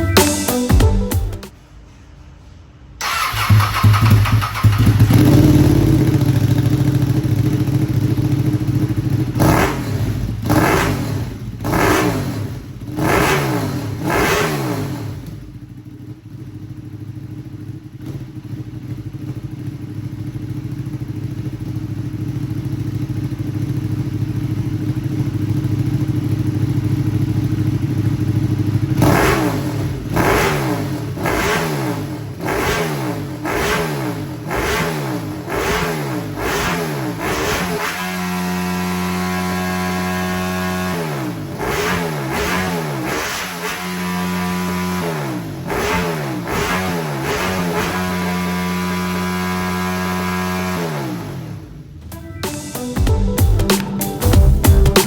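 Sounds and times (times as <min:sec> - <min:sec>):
motorcycle engine idling and revving: 0:03.0 - 0:52.3.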